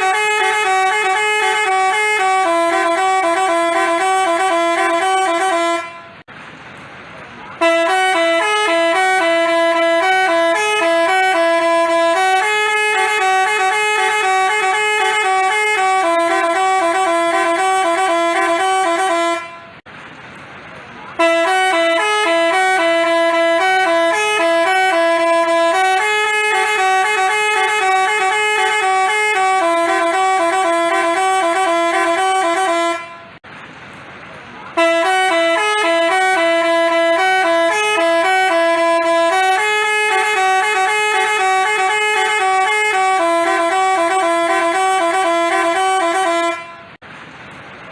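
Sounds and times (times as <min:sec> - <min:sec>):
bus horn playing a tune: 0:00.0 - 0:06.3, 0:07.5 - 0:19.9, 0:21.1 - 0:33.4, 0:34.7 - 0:47.0.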